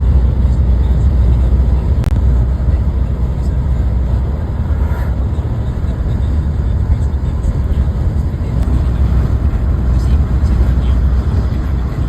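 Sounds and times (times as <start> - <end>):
car driving on road: 0.0 - 12.0.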